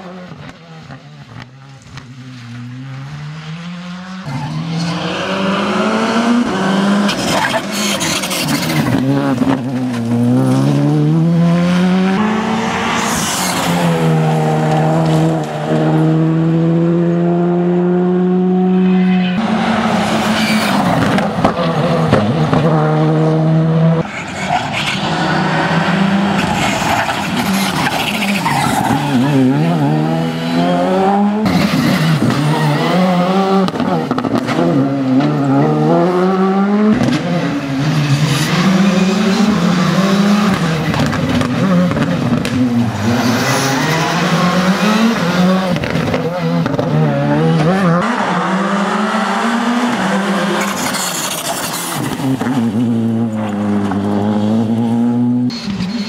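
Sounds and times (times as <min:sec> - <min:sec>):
rally car engine accelerating: 0:00.0 - 0:56.0.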